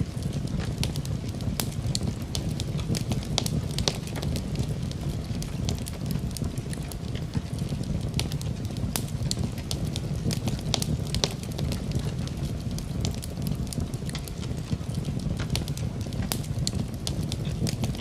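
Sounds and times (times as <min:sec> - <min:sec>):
low rumble of burning fire: 0:00.0 - 0:18.0
wood fire pops and snaps: 0:00.0 - 0:18.0.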